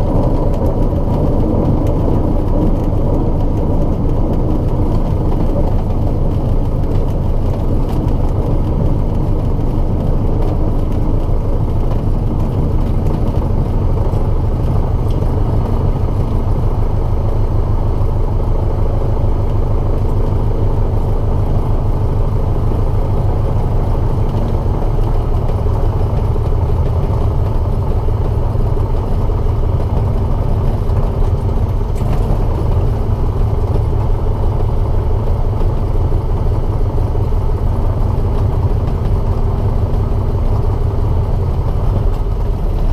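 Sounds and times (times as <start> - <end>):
low rumble and grinding vibration: 0.0 - 42.9
propeller airplane engine running: 0.0 - 42.9.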